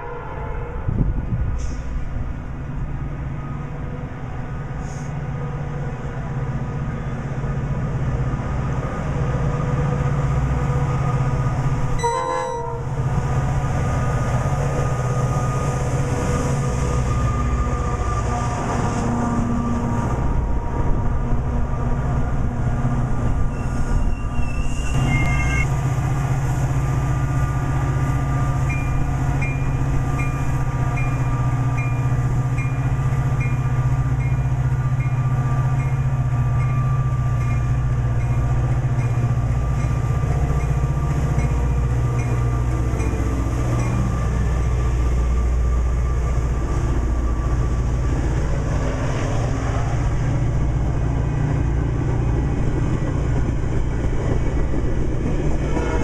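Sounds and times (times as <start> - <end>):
diesel train engine drone: 0.0 - 56.0.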